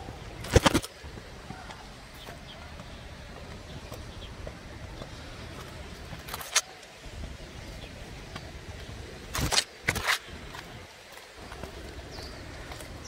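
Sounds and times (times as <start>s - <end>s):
leaves rustling on microphone: 0.0s - 13.0s.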